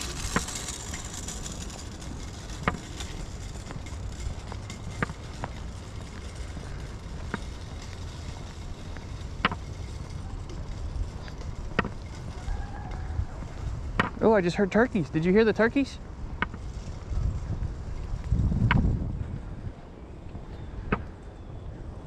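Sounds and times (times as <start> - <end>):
rumble of wind and movement: 0.0 - 22.0.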